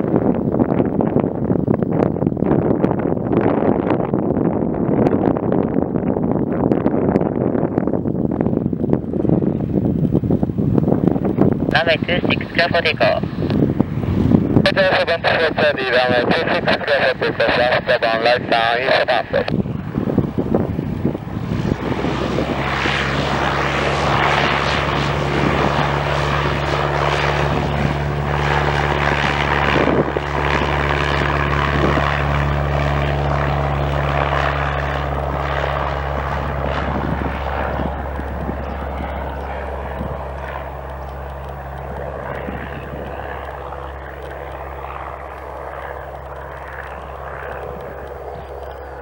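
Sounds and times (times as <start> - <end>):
light aircraft engine and propeller drone: 0.0 - 49.0.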